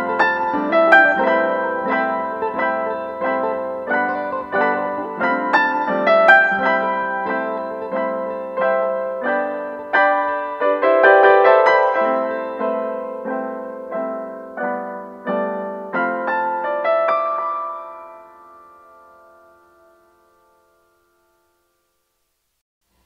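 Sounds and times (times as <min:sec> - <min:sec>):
solo piano music: 0:00.0 - 0:22.2.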